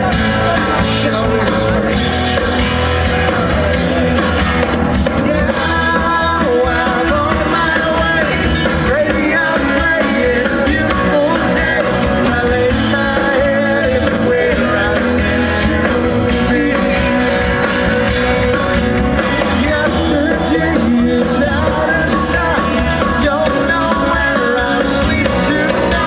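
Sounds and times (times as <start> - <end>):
country band electric guitars: 0.0 - 26.0.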